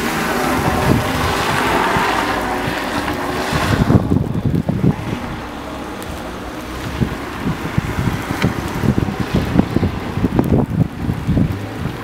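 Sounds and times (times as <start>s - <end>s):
car engine revving: 0.0s - 12.0s
wind buffeting microphone: 0.0s - 12.0s.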